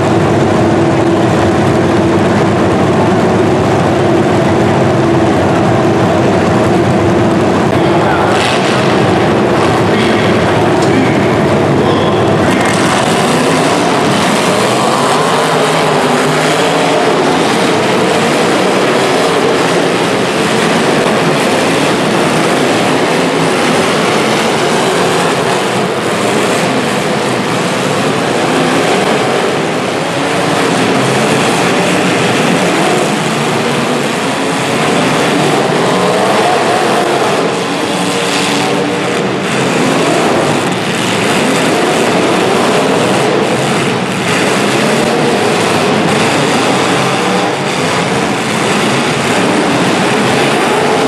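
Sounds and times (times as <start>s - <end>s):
demolition derby car engines running: 0.0s - 51.0s.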